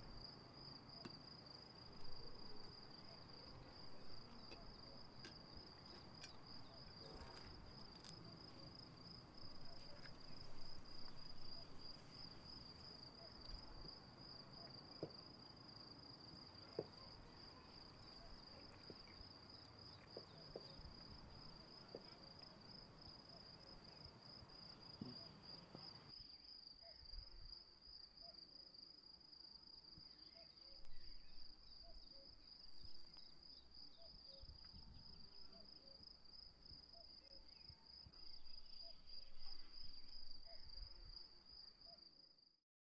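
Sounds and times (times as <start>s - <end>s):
crickets chirping: 0.0s - 42.6s.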